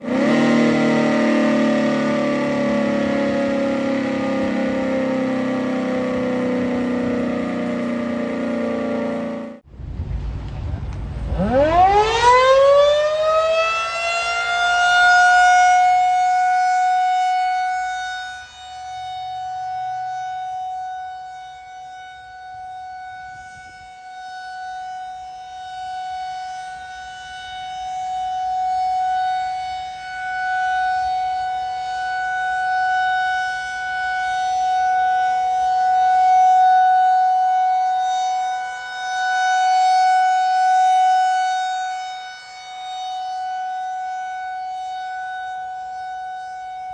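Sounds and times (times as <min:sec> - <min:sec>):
rotating siren wailing: 0:00.0 - 0:46.9.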